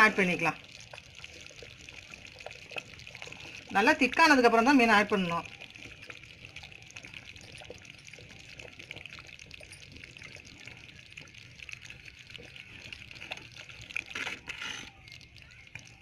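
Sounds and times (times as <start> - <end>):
thick gravy bubbling and popping: 0.0 - 16.0.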